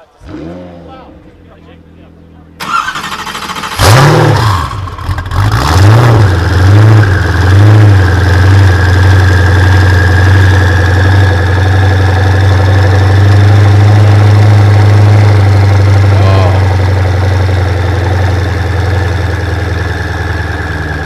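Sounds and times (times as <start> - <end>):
supercar engine revving and idling: 0.0 - 21.0.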